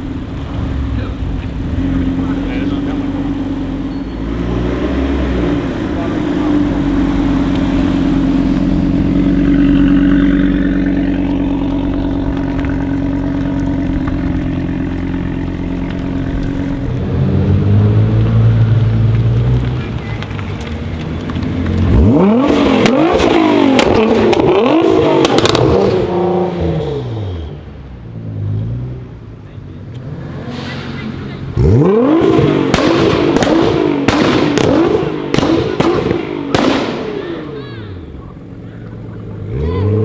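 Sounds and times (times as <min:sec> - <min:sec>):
car engine revving: 0:00.0 - 0:40.0
exhaust crackles: 0:00.0 - 0:40.0.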